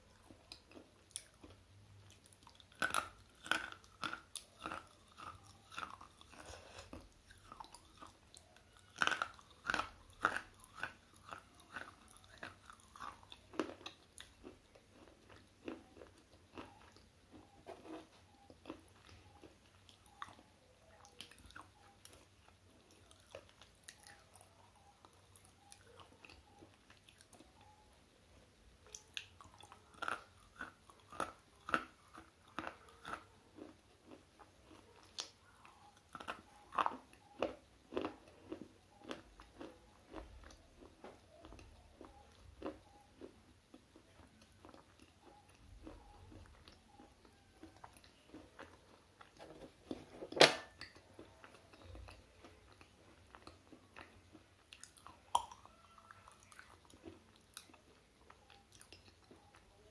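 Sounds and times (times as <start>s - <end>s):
crunching and chewing: 0.0s - 59.9s.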